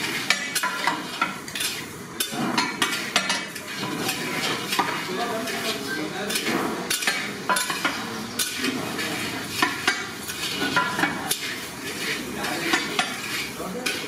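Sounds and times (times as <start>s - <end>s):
metal spatula scraping a metal pot: 0.0s - 14.0s.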